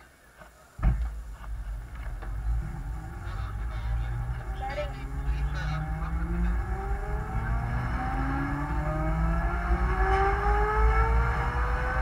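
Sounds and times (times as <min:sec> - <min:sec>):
drivetrain whine rising: 0:00.8 - 0:12.0
road and wind noise: 0:00.8 - 0:12.0.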